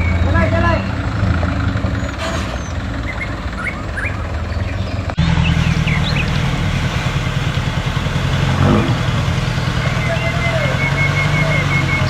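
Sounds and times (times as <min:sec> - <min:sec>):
birds chirping: 0:00.0 - 0:12.0
vehicle engine running: 0:00.0 - 0:12.0.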